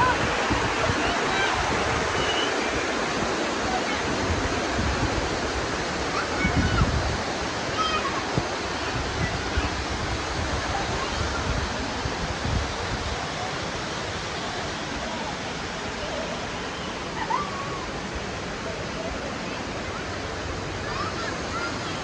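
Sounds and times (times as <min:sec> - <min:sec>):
river and waterfall rushing: 0:00.0 - 0:22.0.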